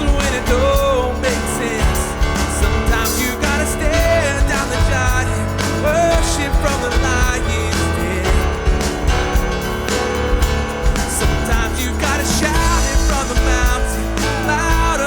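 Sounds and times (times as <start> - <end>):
live band playing upbeat song: 0.0 - 15.0
sliding melody line: 0.0 - 15.0.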